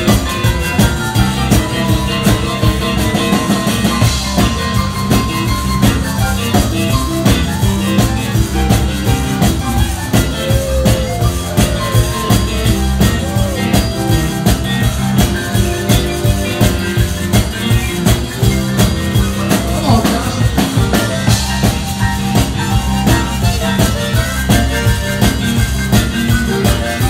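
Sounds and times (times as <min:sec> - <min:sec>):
bass line: 0:00.0 - 0:27.0
drum kit beat: 0:00.0 - 0:27.0
electric keyboard: 0:00.0 - 0:27.0.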